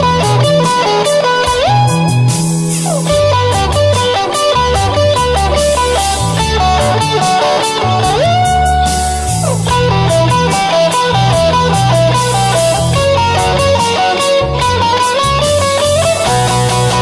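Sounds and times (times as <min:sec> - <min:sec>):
bass and drums backing track: 0:00.0 - 0:17.0
overdriven electric guitar lead: 0:00.0 - 0:17.0.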